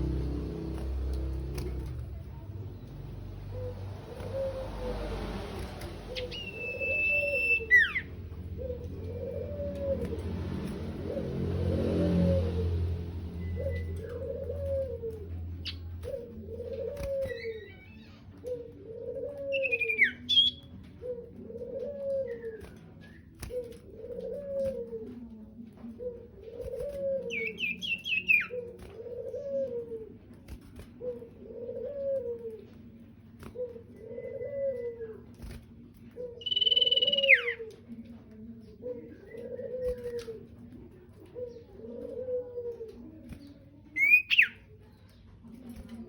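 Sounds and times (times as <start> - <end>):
bird cooing: 0.0 - 46.0.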